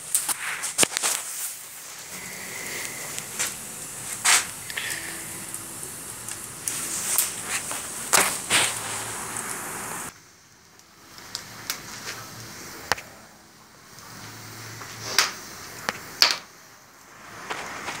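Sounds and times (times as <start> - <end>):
fire soft rushing noise: 0.0 - 18.0
wood fire pops and crackles: 0.0 - 18.0.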